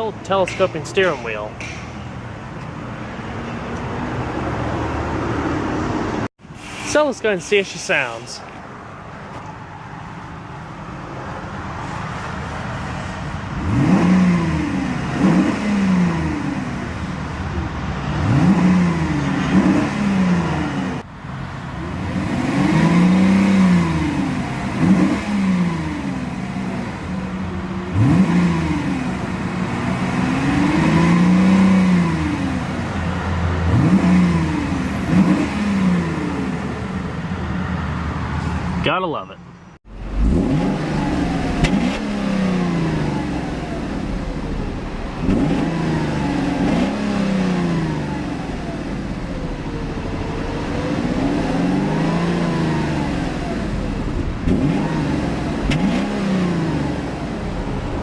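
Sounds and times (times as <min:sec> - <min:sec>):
car engine idling and revving: 0:00.0 - 0:06.6, 0:07.3 - 0:58.0.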